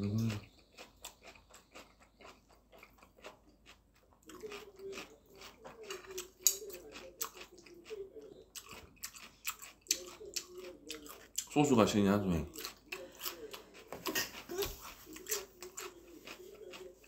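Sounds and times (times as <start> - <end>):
chewing crunchy food: 0.0 - 17.0.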